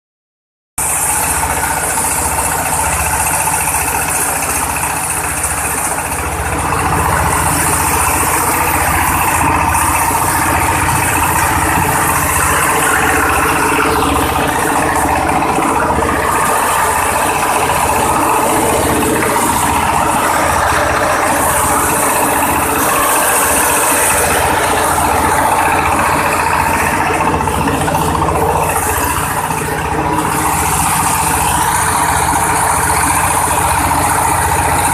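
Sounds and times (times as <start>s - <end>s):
engine-driven chopper running: 0.8s - 34.9s.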